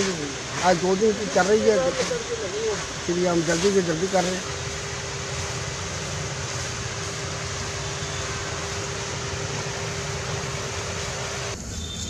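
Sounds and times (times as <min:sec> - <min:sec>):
fans blowing air: 0:00.0 - 0:11.8.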